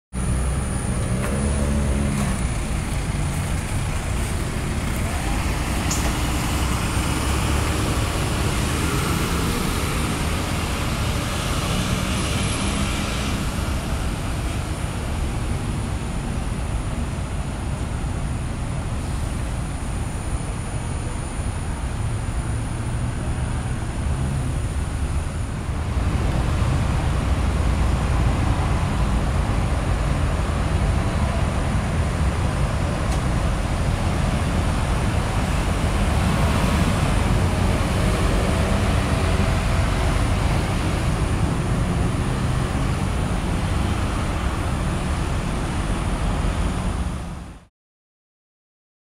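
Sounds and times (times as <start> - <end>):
tyres on the road: 0.1 - 47.7
vehicle engines: 0.1 - 47.7.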